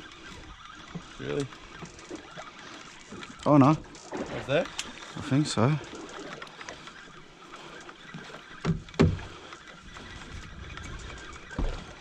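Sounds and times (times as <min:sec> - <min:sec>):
water washing around boat: 0:00.0 - 0:12.0
wind: 0:00.0 - 0:12.0.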